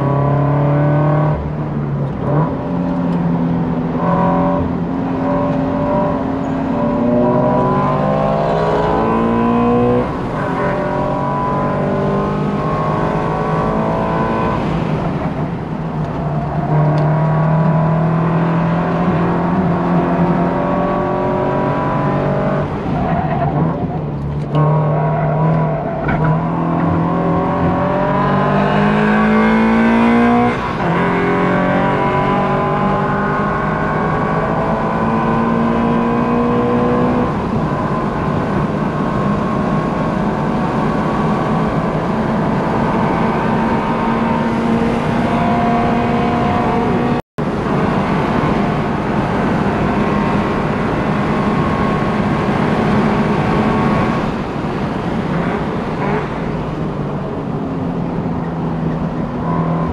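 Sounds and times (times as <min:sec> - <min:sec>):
car engine under full throttle: 0:00.0 - 0:59.9.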